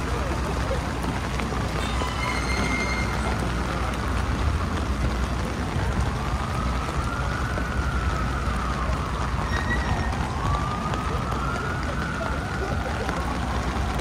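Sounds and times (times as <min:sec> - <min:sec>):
city traffic rumble: 0:00.0 - 0:14.0
faint siren wailing: 0:00.0 - 0:14.0
heavy rain on an umbrella: 0:00.0 - 0:14.0.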